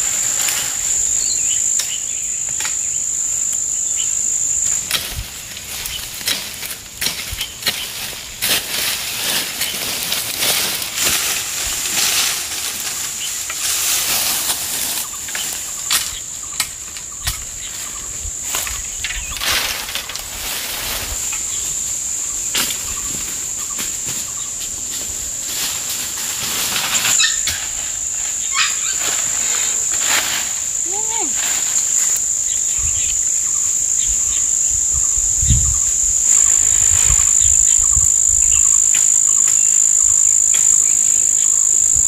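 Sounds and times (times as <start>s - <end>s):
insect drone: 0.0s - 42.0s.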